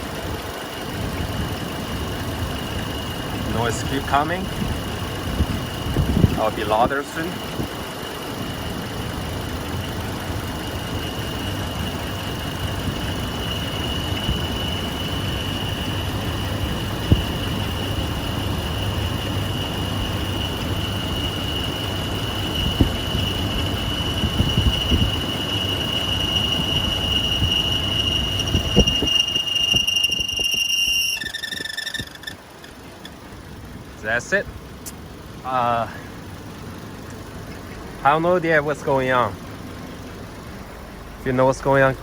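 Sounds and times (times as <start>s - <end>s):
car engine running: 0.0s - 29.8s, 31.2s - 42.0s
high-pitched belt squeal: 0.0s - 34.9s.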